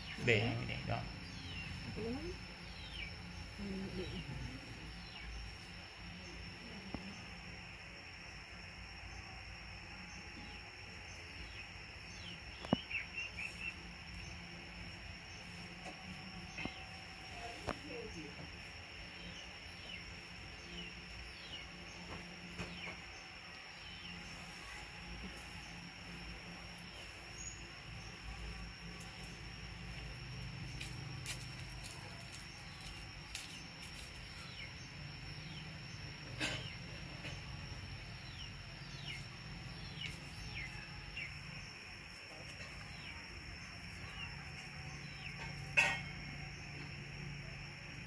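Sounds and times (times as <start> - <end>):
faint hiss: 0.0 - 48.0.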